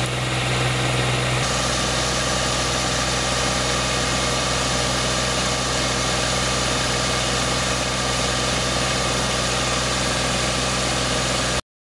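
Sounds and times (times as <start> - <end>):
tractor diesel engine running: 0.0 - 11.6.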